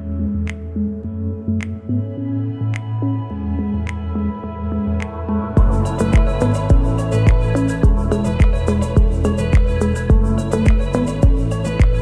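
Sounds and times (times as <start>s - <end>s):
ambient electronic music: 0.0s - 12.0s.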